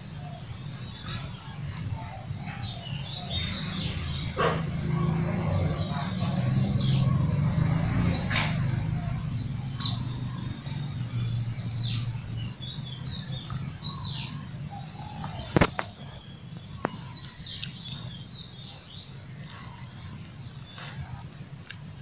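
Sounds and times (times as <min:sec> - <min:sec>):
birds chirping: 0:00.0 - 0:22.0
insect drone: 0:00.0 - 0:22.0.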